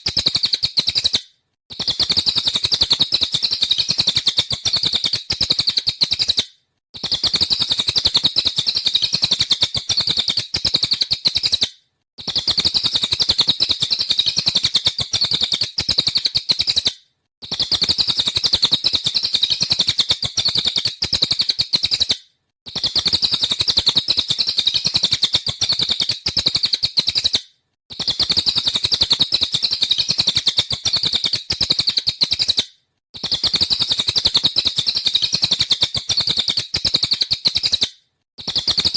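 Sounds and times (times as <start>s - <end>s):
songbird rapid high chirps: 0.0s - 6.4s, 7.0s - 16.9s, 17.5s - 27.4s, 28.0s - 32.6s, 33.2s - 38.9s.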